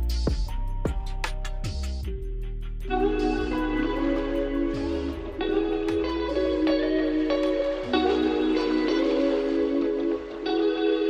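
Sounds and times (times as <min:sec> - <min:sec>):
plucked guitar chords: 0:00.0 - 0:11.0.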